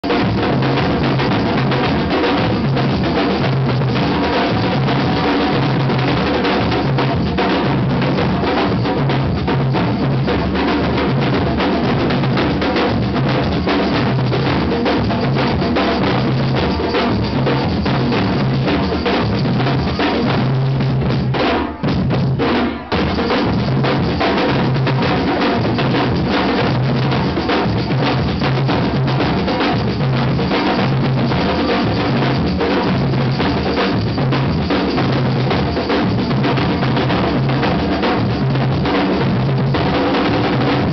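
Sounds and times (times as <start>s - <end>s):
drum kit beat: 0.0s - 40.9s.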